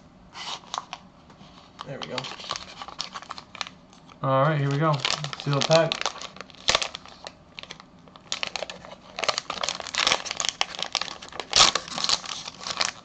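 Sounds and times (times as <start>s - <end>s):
foil wrapper crinkling: 0.3s - 13.0s.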